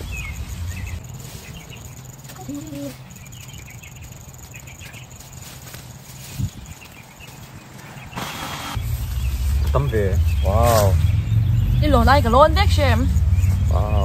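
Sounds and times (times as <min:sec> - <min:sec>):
leafy branches rustling: 0:00.0 - 0:14.0
small birds chirping: 0:00.0 - 0:14.0.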